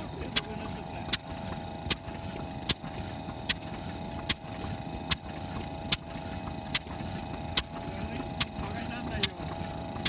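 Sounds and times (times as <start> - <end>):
stationary engine running: 0.0 - 10.0.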